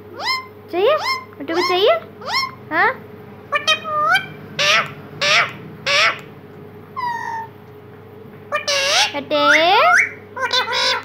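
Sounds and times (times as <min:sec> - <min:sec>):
parakeet calling: 0:00.0 - 0:07.6, 0:08.5 - 0:11.0.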